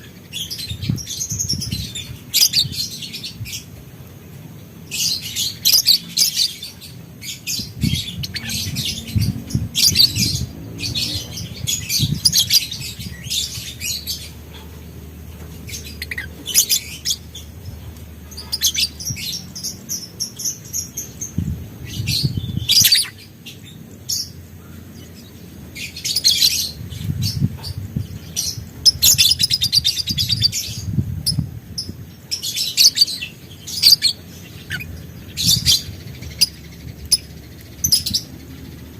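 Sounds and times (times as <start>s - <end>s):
lovebird chirping: 0.0s - 3.7s, 4.8s - 38.9s.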